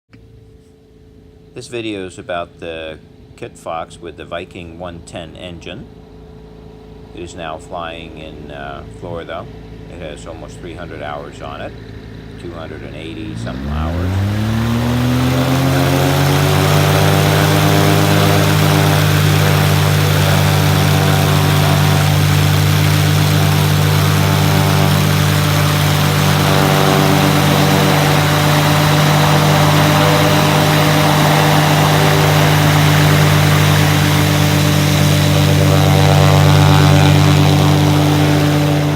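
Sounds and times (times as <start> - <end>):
aircraft engine and propeller drone: 4.6 - 38.9.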